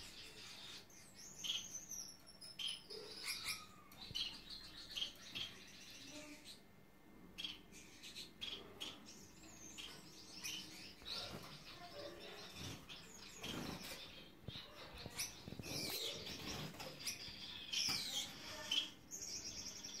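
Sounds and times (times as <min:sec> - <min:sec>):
finches chirping: 0:00.0 - 0:06.7, 0:07.4 - 0:20.0.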